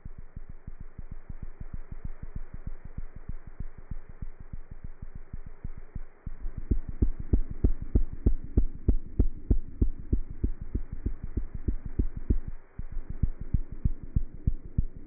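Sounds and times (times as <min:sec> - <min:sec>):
faint steady hum: 0:00.0 - 0:15.0
cat heartbeat through stethoscope: 0:00.4 - 0:15.0.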